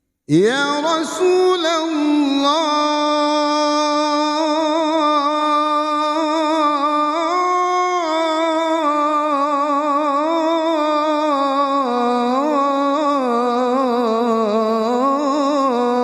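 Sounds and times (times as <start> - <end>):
solo voice singing melismatically: 0.3 - 16.0.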